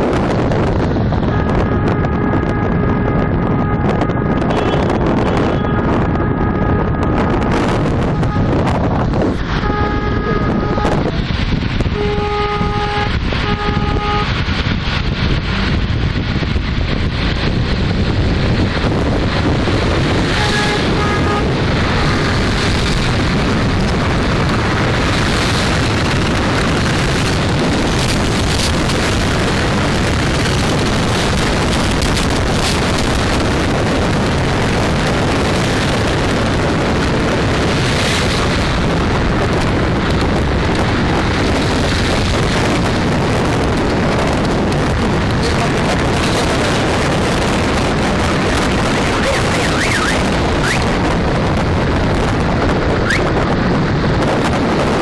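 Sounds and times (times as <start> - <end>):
car road noise: 0.0 - 55.0
wind buffeting microphone: 0.0 - 55.0.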